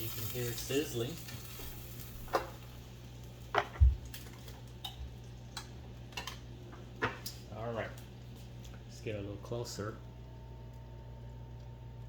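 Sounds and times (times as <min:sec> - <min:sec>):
ribs sizzling in toaster oven: 0:00.0 - 0:12.0
steady low hum: 0:00.0 - 0:12.0.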